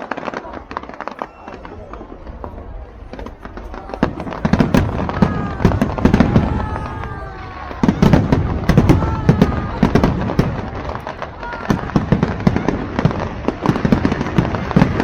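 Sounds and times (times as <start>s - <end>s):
falling firework whistles: 0.0s - 15.0s
fireworks bangs and crackles: 0.0s - 15.0s.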